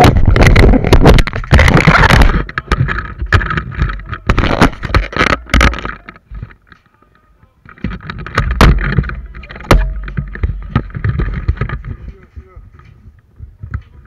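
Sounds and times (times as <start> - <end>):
sharp clicks and knocks: 0.0 - 7.0, 7.6 - 14.0.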